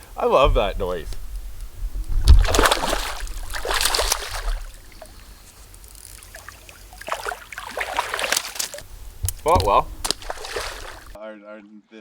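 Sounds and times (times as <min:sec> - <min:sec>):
water splashing and trickling: 0:00.0 - 0:11.2.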